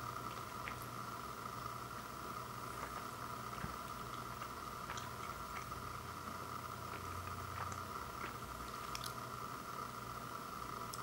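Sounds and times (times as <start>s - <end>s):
constant hum: 0.0s - 11.0s
steady background hiss: 0.0s - 11.0s.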